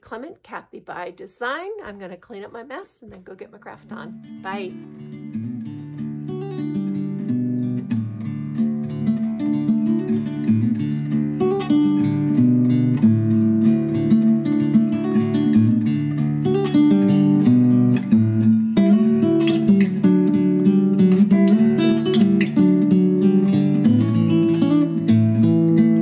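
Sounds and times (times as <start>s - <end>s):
acoustic guitar music: 1.2s - 26.0s.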